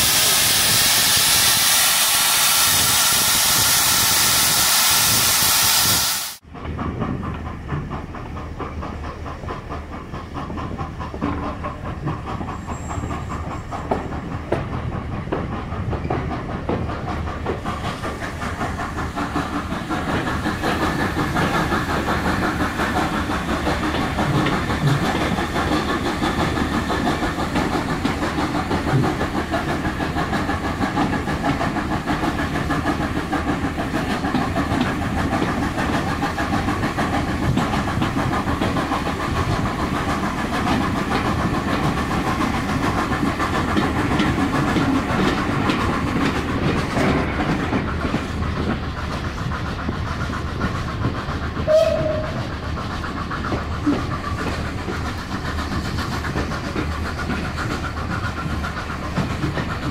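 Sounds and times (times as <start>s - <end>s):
steam hissing: 0.0s - 6.4s, 16.4s - 59.9s
train running rumble: 0.0s - 59.9s.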